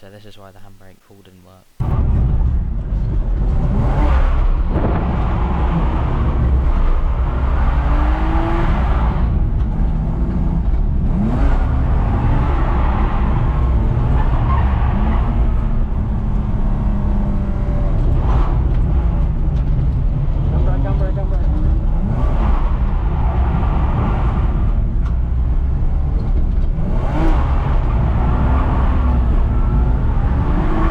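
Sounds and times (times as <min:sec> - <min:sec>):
car engine revving: 0:01.8 - 0:30.9.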